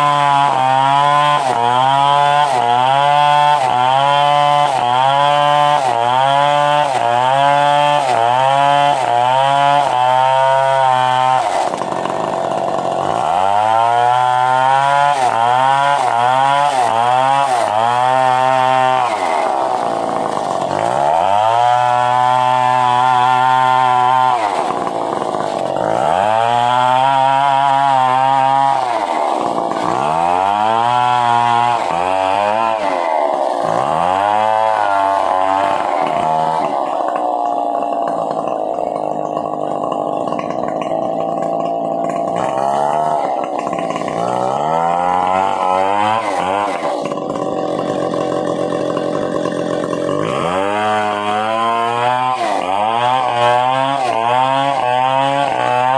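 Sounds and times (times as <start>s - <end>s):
chainsaw sawing wood: 0.0s - 55.9s.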